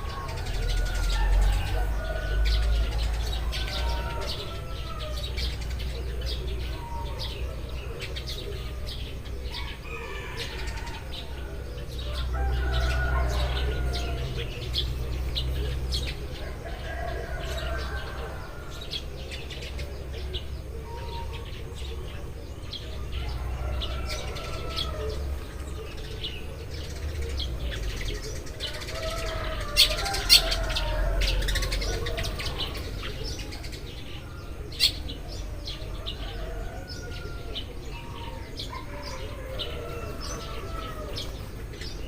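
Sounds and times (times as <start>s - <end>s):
sparrows chirping: 0.0s - 42.0s.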